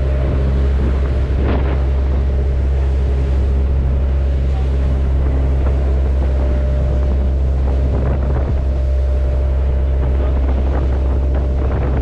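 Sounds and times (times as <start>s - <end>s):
boat engine humming: 0.0s - 12.0s
sea splashing: 0.0s - 12.0s
wind buffeting microphone: 0.0s - 12.0s.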